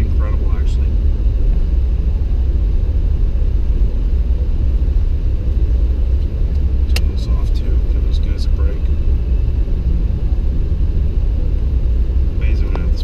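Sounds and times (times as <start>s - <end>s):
car engine driving on snow: 0.0s - 13.0s.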